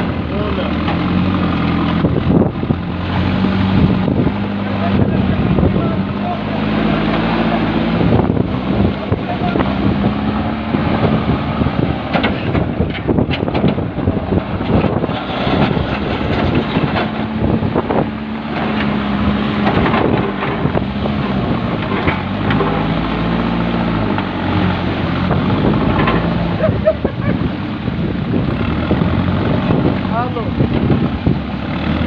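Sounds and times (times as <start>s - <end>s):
diesel engine under load: 0.0s - 32.0s.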